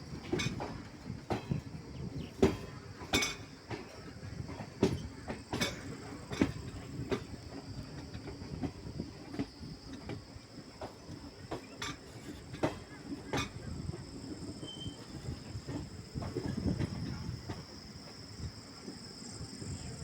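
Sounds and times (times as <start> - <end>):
train wheels knocking: 0.0 - 19.2
train rumbling on rails: 0.0 - 20.0.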